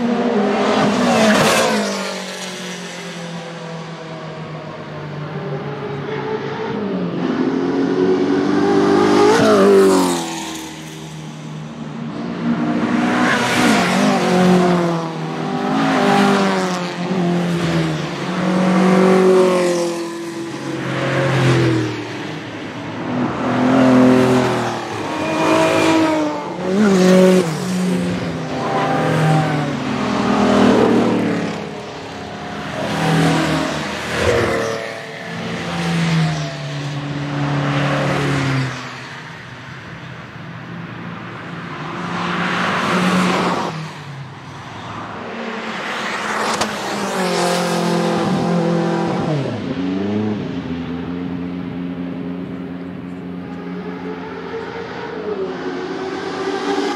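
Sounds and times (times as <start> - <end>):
race car engines accelerating: 0.0 - 56.9.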